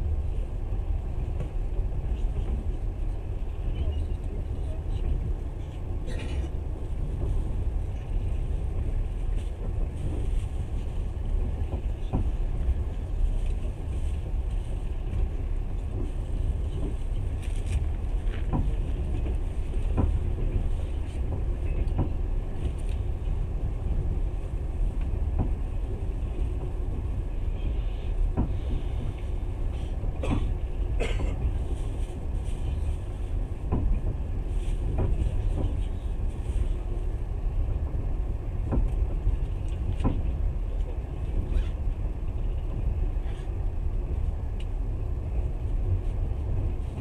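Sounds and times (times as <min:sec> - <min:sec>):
train knocks and clicks: 0:00.0 - 0:47.0
train wheels rumbling on rails: 0:00.0 - 0:47.0.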